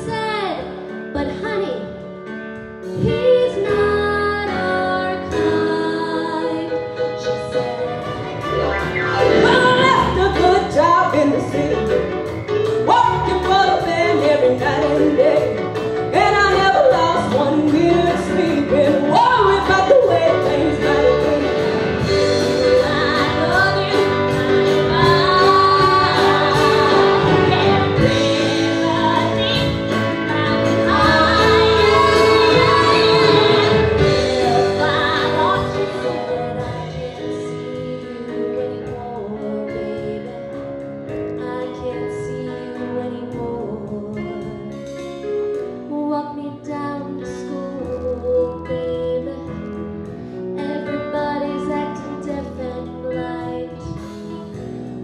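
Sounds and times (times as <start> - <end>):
woman singing with accompaniment: 2.8 - 8.5, 9.2 - 54.8.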